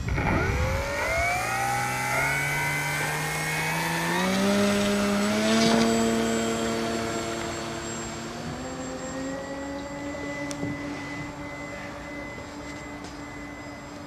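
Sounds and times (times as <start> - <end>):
model plane motor whine rising: 0.0 - 14.0.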